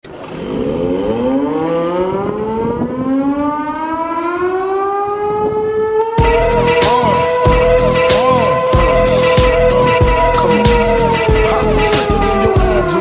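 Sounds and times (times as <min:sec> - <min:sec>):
goal siren winding up: 0:00.2 - 0:13.0.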